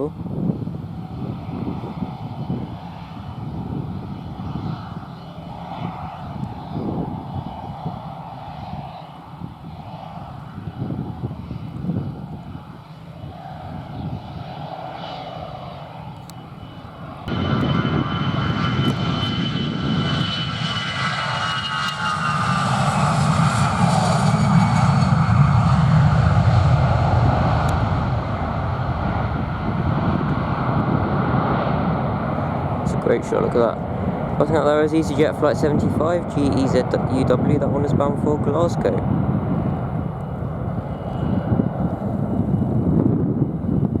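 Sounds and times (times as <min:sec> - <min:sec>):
jet engines passing: 0:00.0 - 0:44.0.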